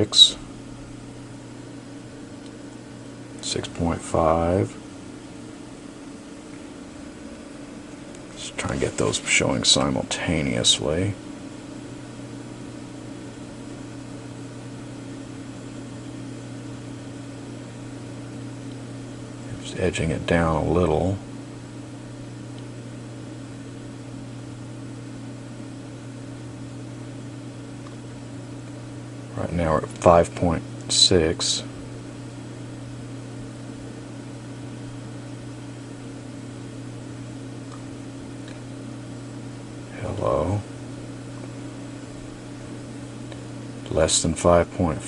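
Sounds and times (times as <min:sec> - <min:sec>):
low electrical hum with hiss: 0:00.0 - 0:45.0.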